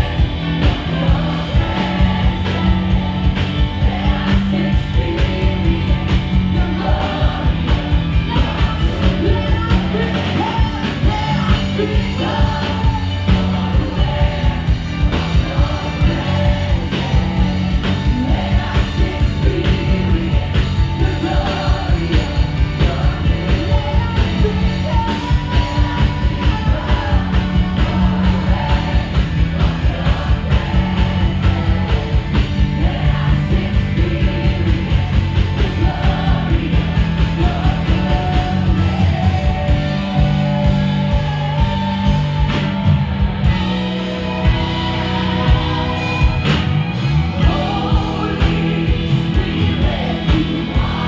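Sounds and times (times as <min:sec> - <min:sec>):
bass: 0:00.0 - 0:51.0
fast steady drum beat: 0:00.0 - 0:51.0
guitar: 0:00.0 - 0:51.0
singers: 0:00.0 - 0:51.0.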